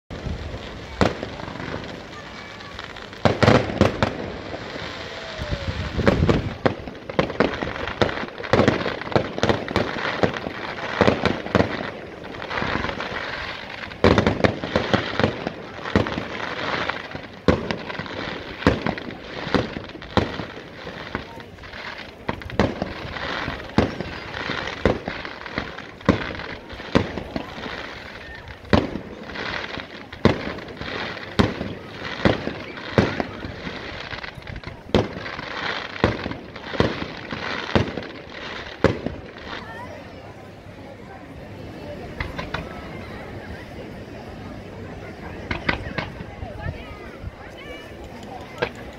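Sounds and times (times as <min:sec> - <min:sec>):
fireworks bursting: 0:00.1 - 0:43.7, 0:44.6 - 0:48.9.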